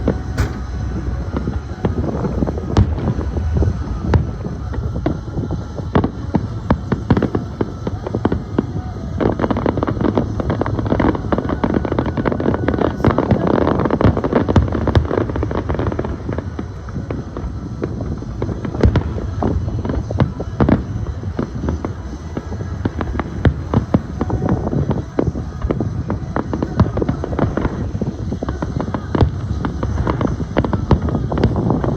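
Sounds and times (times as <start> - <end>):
fireworks popping and banging: 0.0 - 31.9.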